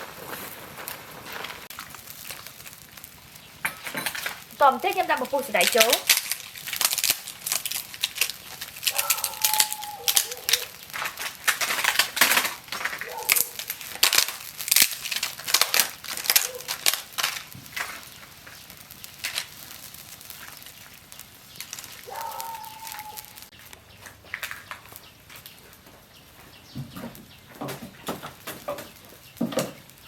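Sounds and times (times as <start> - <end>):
crisp clicks and crackles: 0.0 - 25.9, 28.0 - 30.0.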